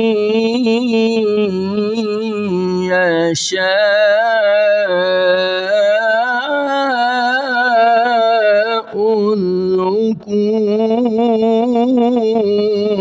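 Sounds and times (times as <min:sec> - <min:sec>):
elderly man reciting melodically: 0:00.0 - 0:13.0.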